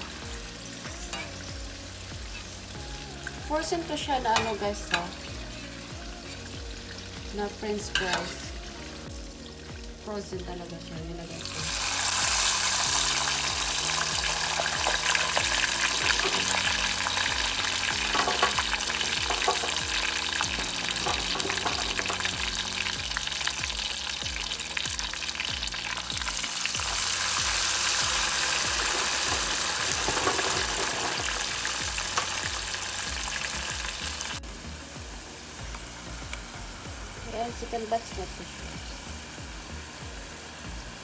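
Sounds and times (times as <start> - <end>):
background music: 0.0 - 41.0
fries sizzling in hot oil: 0.0 - 41.0.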